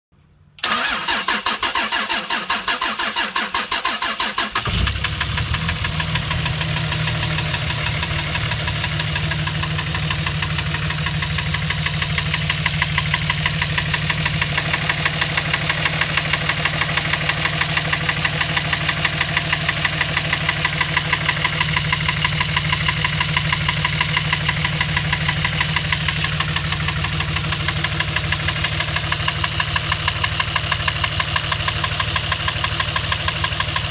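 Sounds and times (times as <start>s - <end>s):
starter cranking engine: 0.6s - 33.9s
engine running with knock: 4.6s - 33.9s.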